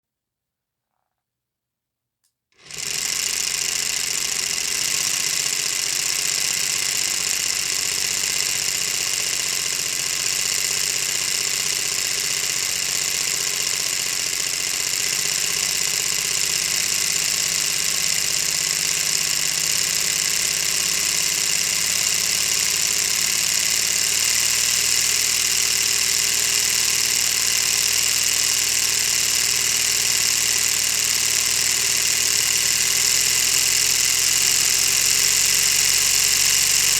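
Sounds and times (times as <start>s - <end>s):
plastic engine model whirring clatter: 2.6s - 36.9s.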